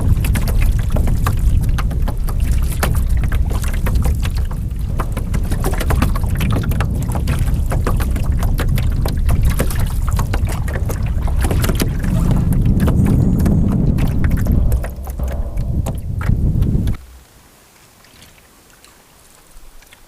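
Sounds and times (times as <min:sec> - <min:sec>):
wind rumble on microphone: 0:00.0 - 0:17.3
water splashing around canoe hull: 0:00.0 - 0:20.0.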